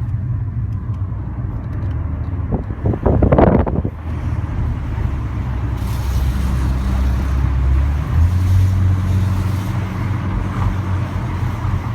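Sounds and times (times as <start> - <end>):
car engine running low revs: 0.0 - 11.9.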